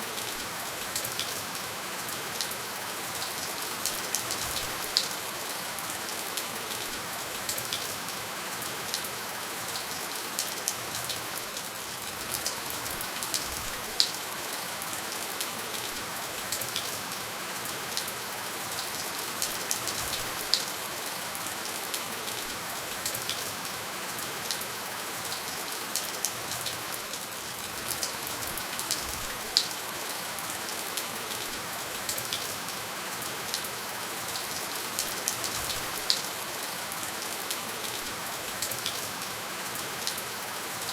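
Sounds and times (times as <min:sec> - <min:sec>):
rain hissing: 0:00.0 - 0:40.9.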